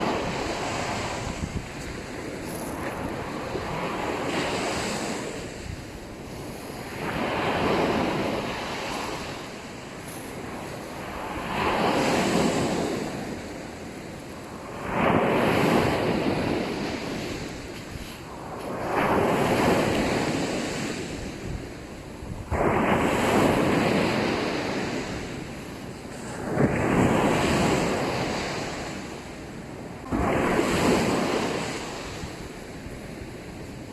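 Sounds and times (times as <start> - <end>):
sea waves washing up beach: 0.0 - 33.9.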